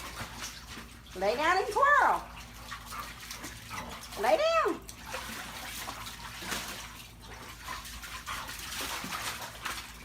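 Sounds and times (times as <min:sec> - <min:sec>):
dog splashing in water: 0:00.0 - 0:10.0.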